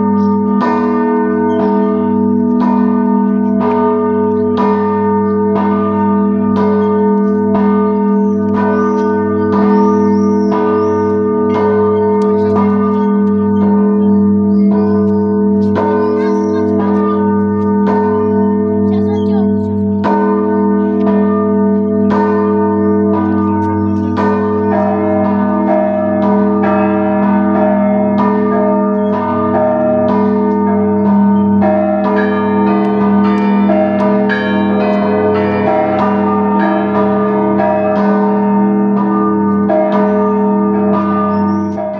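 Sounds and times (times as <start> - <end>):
large bell ringing: 0.0 - 41.9
smaller higher-pitched bells: 0.0 - 41.9.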